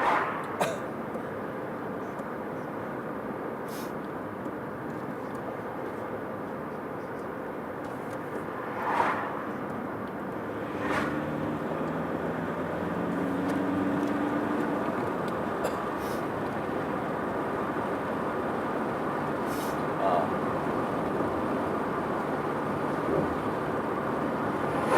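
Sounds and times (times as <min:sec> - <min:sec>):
car road and engine noise: 0:00.0 - 0:24.9.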